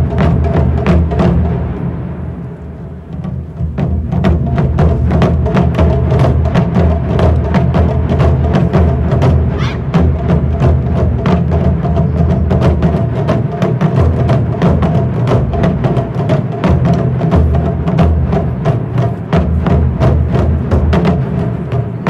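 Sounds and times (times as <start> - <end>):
drum ensemble playing: 0.0 - 22.0.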